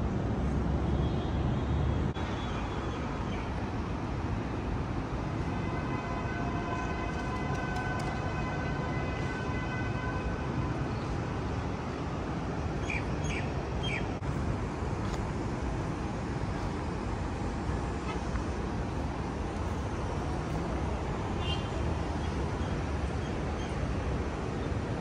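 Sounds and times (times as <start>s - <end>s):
city background noise: 0.0s - 25.0s.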